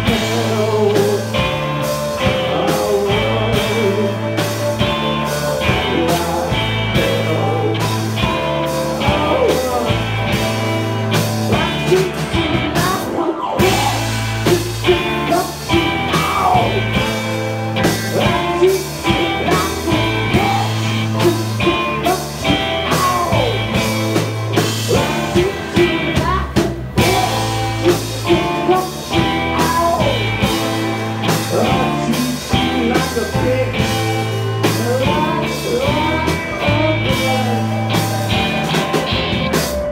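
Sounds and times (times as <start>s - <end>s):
man singing lead: 0.0s - 39.9s
rock band playing: 0.0s - 39.9s.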